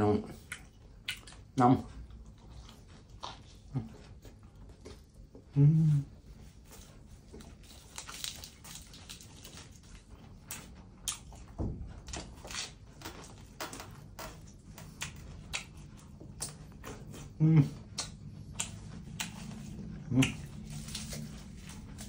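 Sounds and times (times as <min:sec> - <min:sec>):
person chewing crunchy food: 0:00.2 - 0:22.0.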